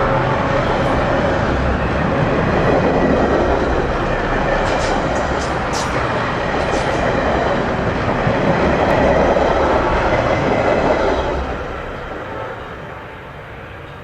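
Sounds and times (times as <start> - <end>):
train rolling past on rails: 0.0 - 14.0.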